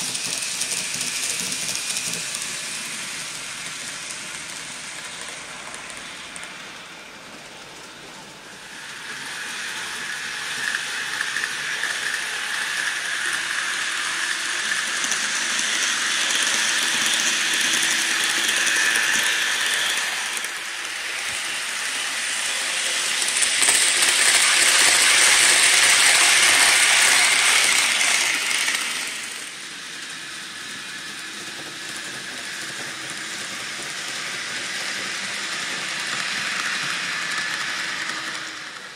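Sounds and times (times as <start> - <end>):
model train motor whine: 0.0 - 38.9.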